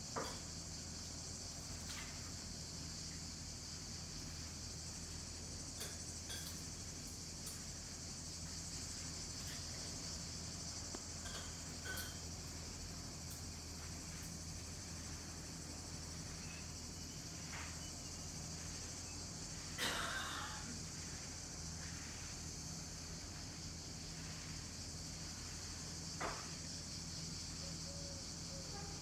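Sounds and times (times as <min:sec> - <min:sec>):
cicadas buzzing: 0:00.0 - 0:29.0.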